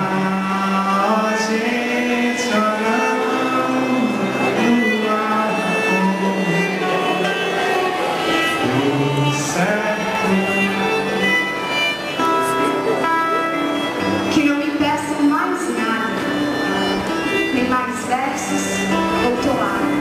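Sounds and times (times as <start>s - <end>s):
bowed strings playing slow notes: 0.0s - 20.0s.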